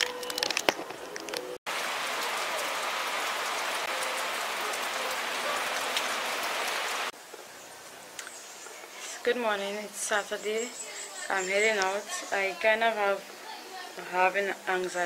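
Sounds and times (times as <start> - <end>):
steady rain falling: 1.1 - 15.0.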